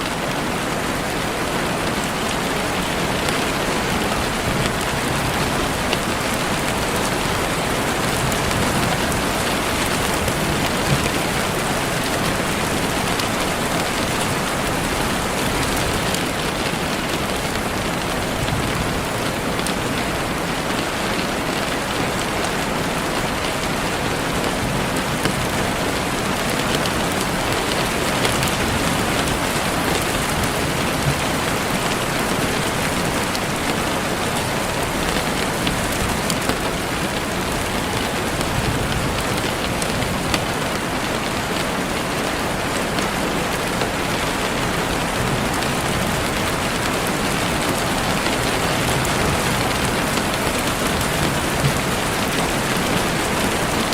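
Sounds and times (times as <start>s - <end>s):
heavy rain on leaves: 0.0s - 53.9s.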